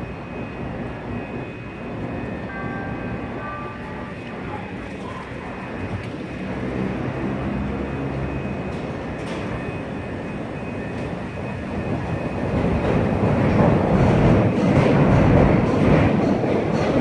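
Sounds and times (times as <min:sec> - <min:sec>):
elevated train on steel tracks: 0:00.0 - 0:17.0.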